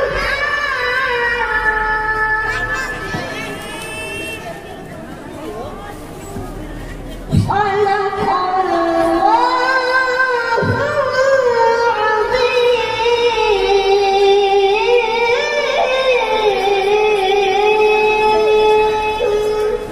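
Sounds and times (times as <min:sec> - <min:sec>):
boy chanting recitation into microphone: 0:00.0 - 0:04.6, 0:05.5 - 0:19.9.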